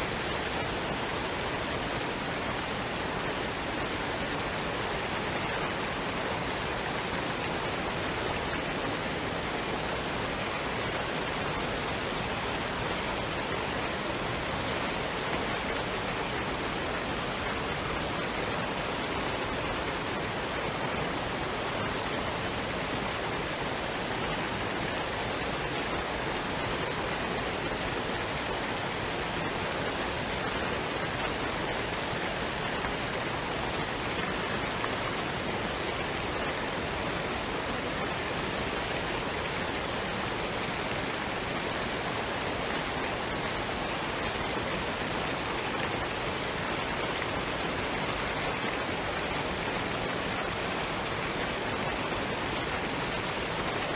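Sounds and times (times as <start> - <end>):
waterfall and stream rushing: 0.0 - 53.9.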